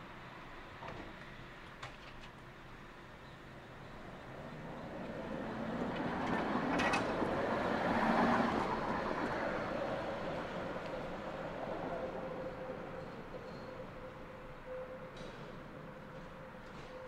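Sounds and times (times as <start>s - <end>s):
tram clatter: 0.2s - 17.0s
tram passing: 2.4s - 17.0s.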